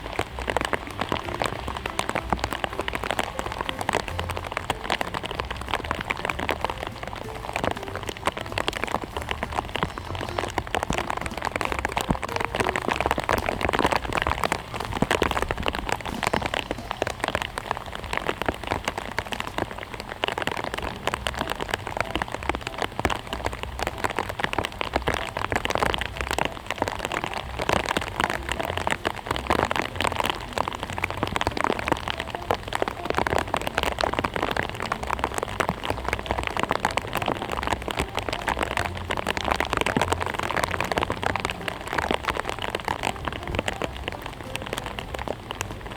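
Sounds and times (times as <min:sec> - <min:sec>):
rain patter: 0:00.0 - 0:45.9.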